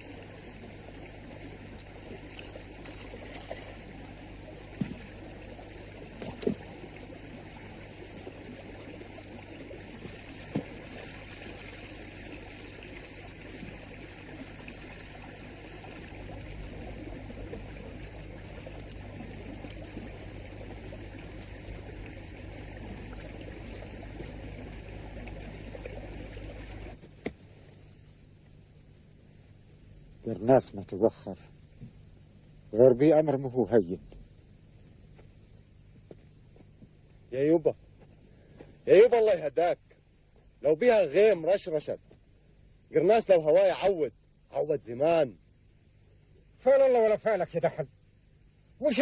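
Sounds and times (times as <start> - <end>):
stream water trickling: 0.0 - 49.0.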